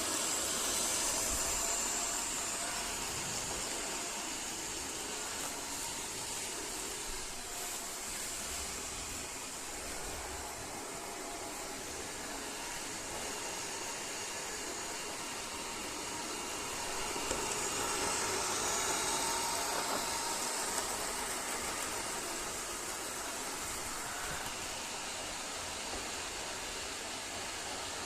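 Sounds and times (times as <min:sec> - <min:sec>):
robot vacuum running: 0:00.0 - 0:28.0.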